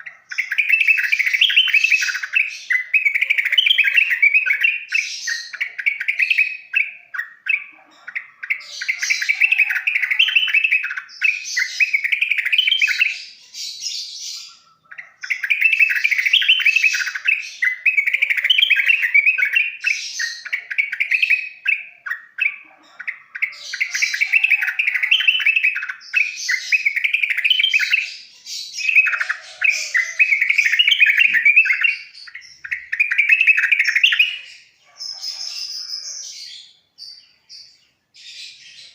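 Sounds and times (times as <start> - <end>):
bird singing chattering notes: 0.0 - 34.8.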